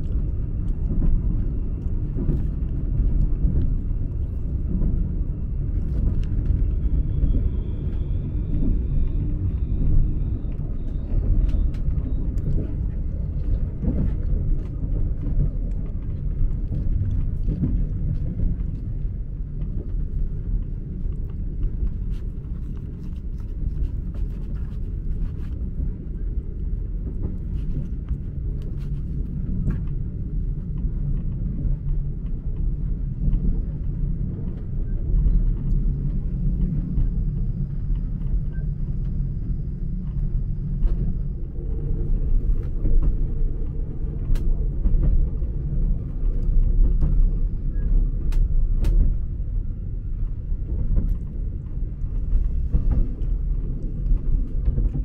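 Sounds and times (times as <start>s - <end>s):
train rumbling on the track: 0.0s - 55.0s.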